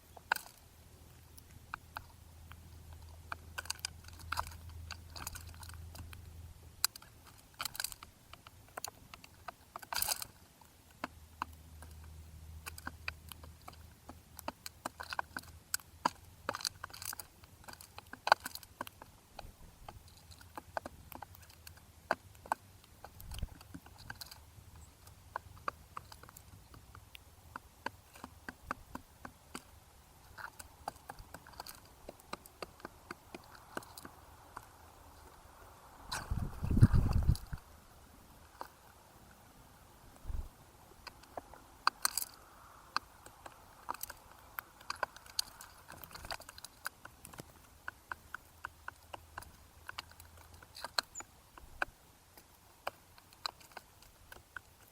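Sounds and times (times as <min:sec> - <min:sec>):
birds cracking seed: 0:00.0 - 0:54.9.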